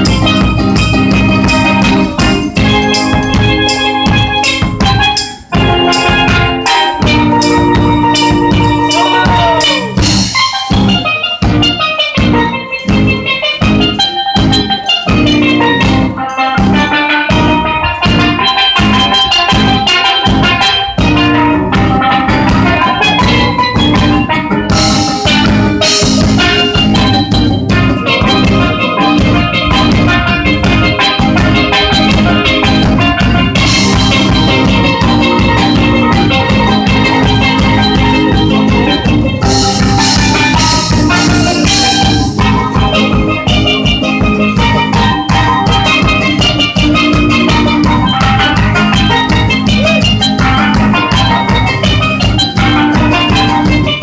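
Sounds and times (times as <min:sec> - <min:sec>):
bass drum beat: 0:00.0 - 0:54.0
steel pan melody: 0:00.0 - 0:54.0.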